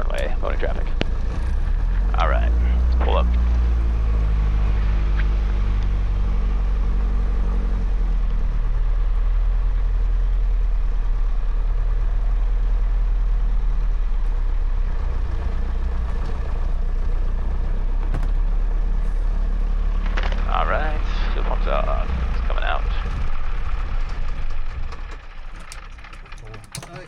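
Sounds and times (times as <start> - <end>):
piston aircraft engine idling: 0.0 - 27.0.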